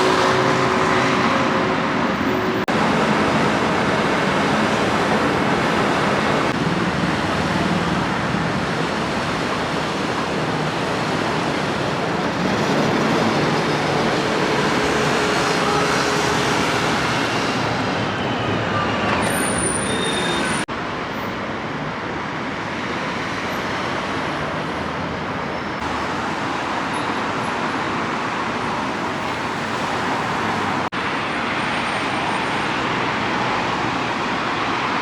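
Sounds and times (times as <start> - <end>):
city street traffic: 0.0 - 35.0.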